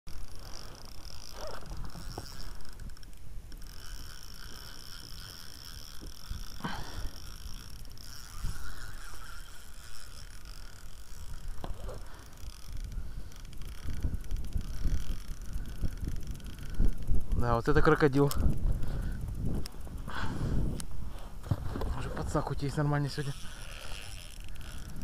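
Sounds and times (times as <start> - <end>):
wind rumbling on microphone: 0.3 - 25.0.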